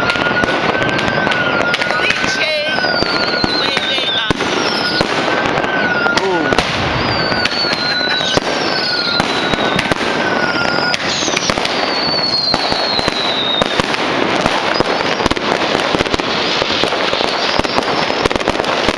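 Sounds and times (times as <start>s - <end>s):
fireworks crackling and banging: 0.0s - 18.9s
whistling fireworks: 0.0s - 18.9s.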